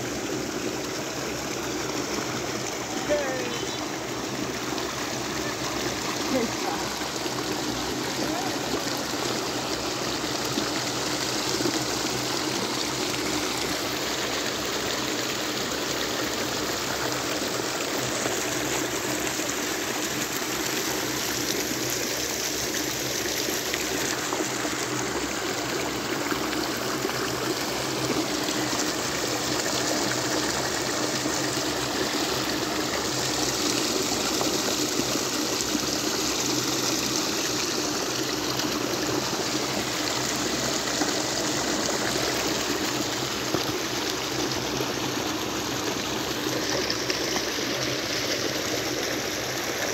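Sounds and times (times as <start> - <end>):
water rushing into a river: 0.0 - 49.9.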